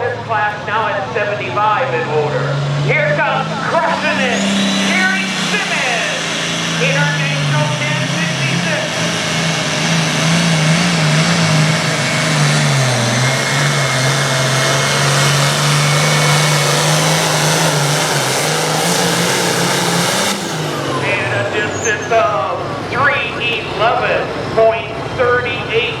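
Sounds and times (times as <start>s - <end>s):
diesel tractor engine roaring: 0.0s - 26.0s.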